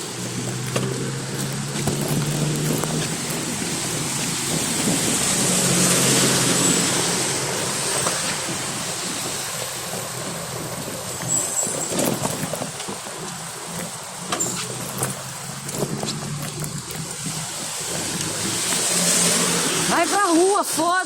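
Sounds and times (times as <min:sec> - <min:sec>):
low engine hum: 0:00.0 - 0:12.6, 0:13.7 - 0:20.0
vehicle rushing noise: 0:00.0 - 0:20.8.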